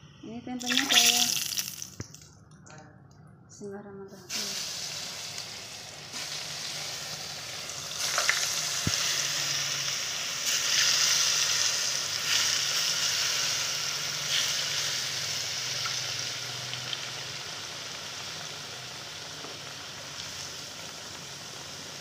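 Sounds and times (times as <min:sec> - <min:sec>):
food deep-frying in oil: 0:00.6 - 0:02.1, 0:04.3 - 0:22.0.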